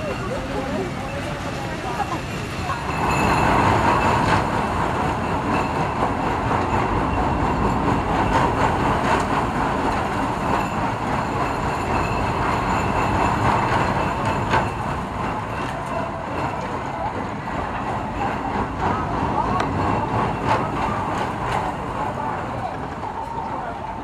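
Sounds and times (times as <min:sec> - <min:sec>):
roller coaster wheels rolling: 0:00.0 - 0:24.0.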